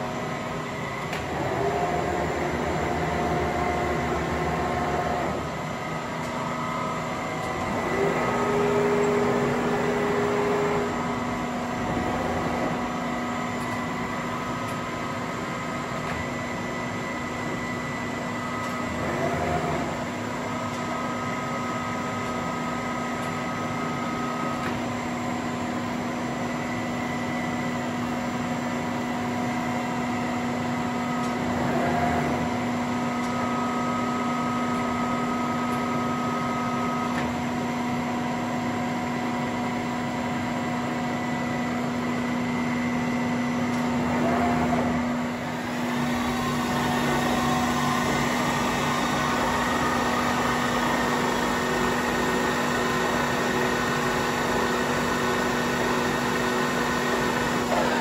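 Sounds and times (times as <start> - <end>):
milling machine humming: 0.0 - 58.0.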